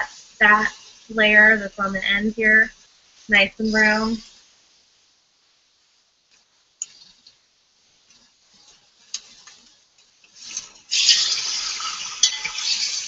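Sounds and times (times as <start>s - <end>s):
meat sizzling in hot pan: 0.0s - 13.0s.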